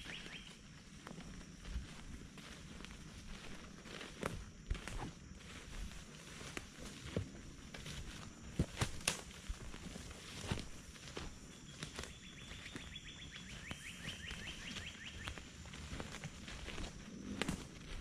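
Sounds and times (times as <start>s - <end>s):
footsteps on swamp floor: 0.0s - 18.0s.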